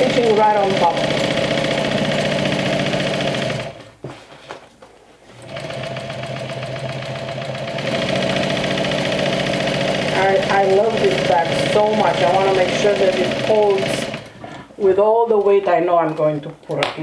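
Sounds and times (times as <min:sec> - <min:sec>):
sewing machine stitching: 0:00.0 - 0:04.0, 0:05.3 - 0:15.6.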